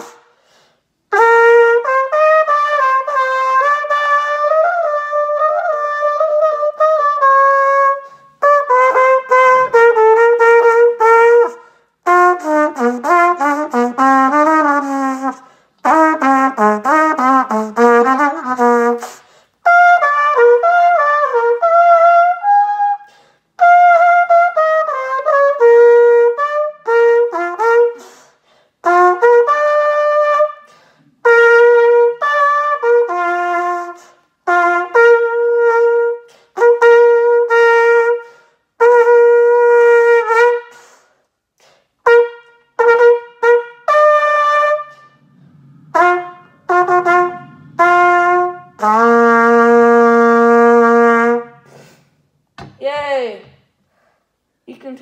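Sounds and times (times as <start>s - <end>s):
solo trumpet playing: 1.1s - 41.0s, 42.0s - 45.3s, 45.9s - 51.9s.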